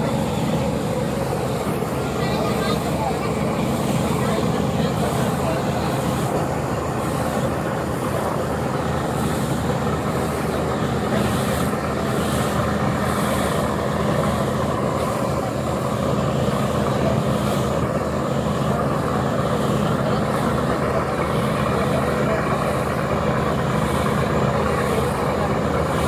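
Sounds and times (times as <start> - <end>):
boat engine droning: 0.0 - 26.0
rushing water: 0.0 - 26.0
wind: 0.0 - 26.0.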